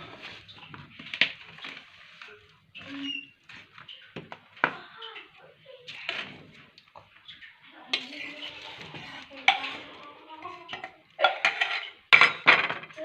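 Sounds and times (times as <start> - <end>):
utensils clattering against bowl: 0.0 - 13.0.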